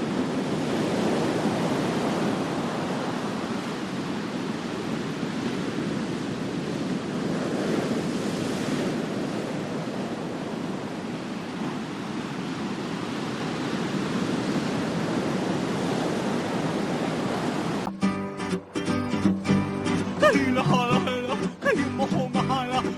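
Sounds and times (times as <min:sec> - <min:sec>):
waves breaking on beach: 0:00.0 - 0:22.9.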